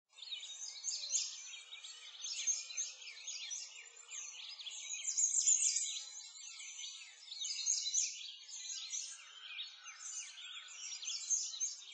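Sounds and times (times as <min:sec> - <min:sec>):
small birds chirping: 0:00.1 - 0:11.9.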